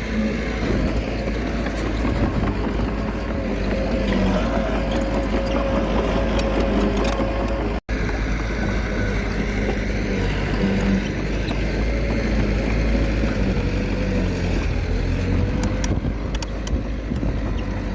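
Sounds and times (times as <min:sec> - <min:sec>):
bulldozer diesel engine running: 0:00.0 - 0:17.9.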